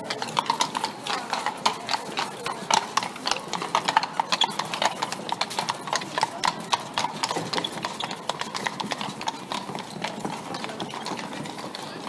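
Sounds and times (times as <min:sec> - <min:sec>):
hooves clip-clopping on cobblestones: 0:00.0 - 0:12.0.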